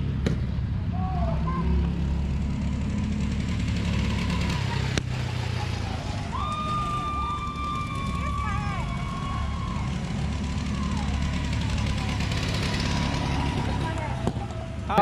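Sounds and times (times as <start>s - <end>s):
vehicle engines humming: 0.0s - 15.0s.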